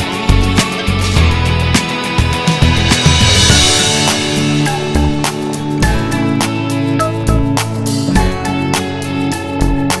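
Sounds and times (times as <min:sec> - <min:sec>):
steady drum beat: 0:00.0 - 0:08.4
held instrumental tones: 0:01.7 - 0:09.9.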